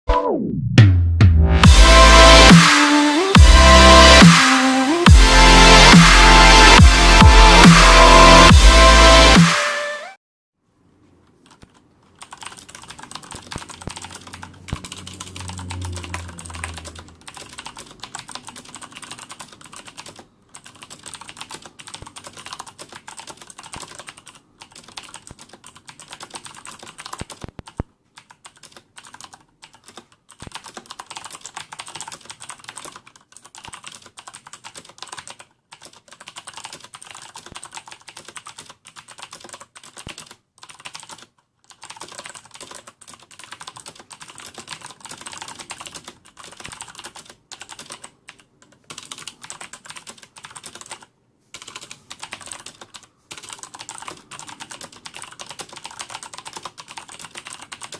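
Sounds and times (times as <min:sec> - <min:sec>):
clicky mechanical keyboard typing: 0:11.2 - 0:57.9.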